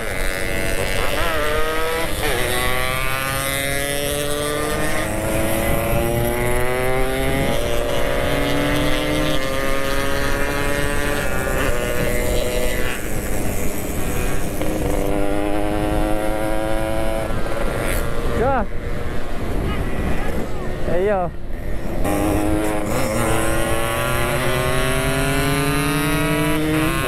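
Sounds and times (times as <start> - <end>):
motorcycle engine accelerating: 0.0 - 19.4, 21.5 - 27.0.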